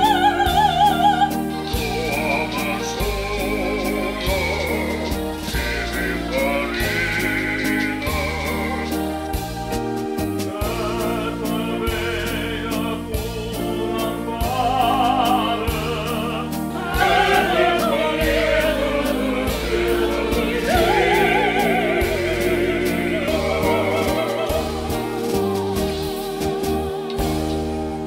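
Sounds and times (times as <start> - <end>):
man singing opera: 0.0 - 26.1
opera choir singing: 0.0 - 28.0
sustained accompaniment chords: 0.0 - 28.0.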